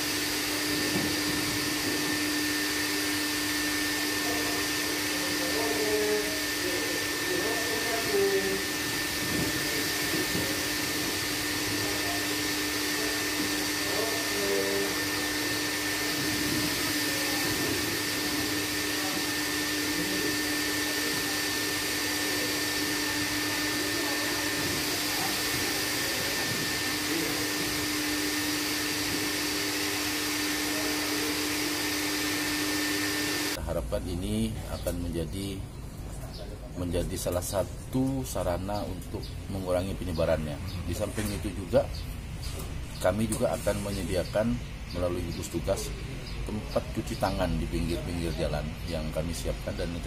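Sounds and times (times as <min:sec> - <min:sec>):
misting machine hissing: 0:00.0 - 0:35.4, 0:36.8 - 0:50.0.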